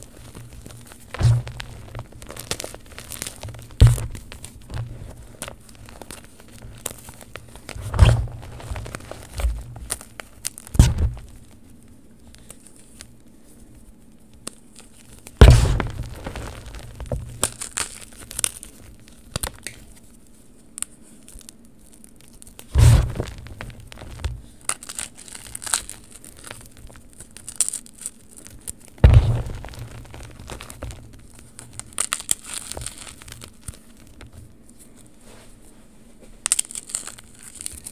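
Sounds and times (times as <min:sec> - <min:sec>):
hands crumbling chalk: 0:00.0 - 0:11.6, 0:14.4 - 0:20.1, 0:20.8 - 0:34.4, 0:36.4 - 0:37.9
loud chalk crunches: 0:00.0 - 0:13.6, 0:14.3 - 0:37.9.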